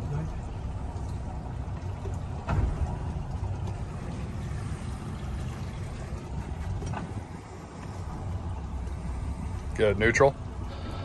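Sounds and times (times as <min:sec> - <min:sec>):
outboard motors rumbling: 0:00.0 - 0:11.0.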